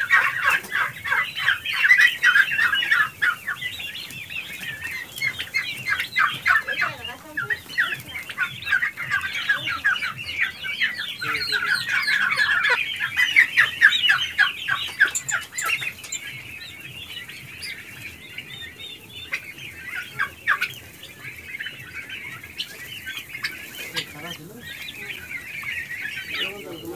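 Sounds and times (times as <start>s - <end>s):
turkey poults calling: 0.0s - 26.9s.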